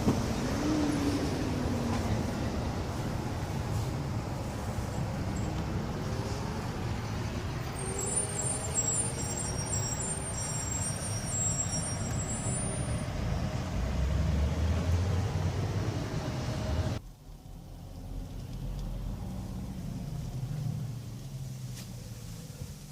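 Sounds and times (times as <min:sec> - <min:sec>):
motor vehicle rumble: 0:00.0 - 0:22.9.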